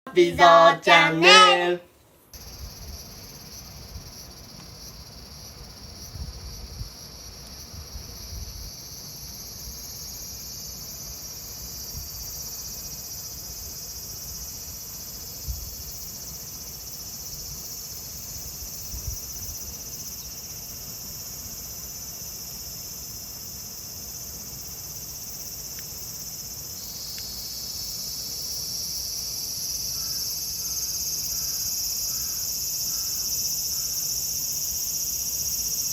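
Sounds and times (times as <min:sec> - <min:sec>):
cicadas buzzing: 0:02.4 - 0:35.9
lower-pitched insect buzz: 0:02.4 - 0:35.9.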